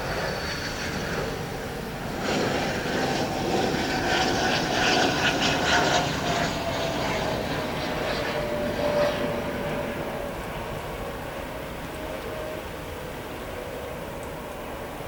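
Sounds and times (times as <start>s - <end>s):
jet engines passing: 0.0s - 15.0s.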